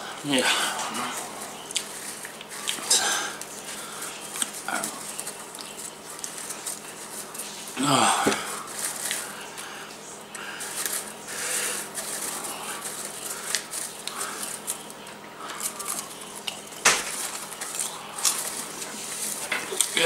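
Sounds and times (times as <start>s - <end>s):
popcorn rustling in plastic bowl: 0.0s - 20.0s
chewing: 0.6s - 20.0s.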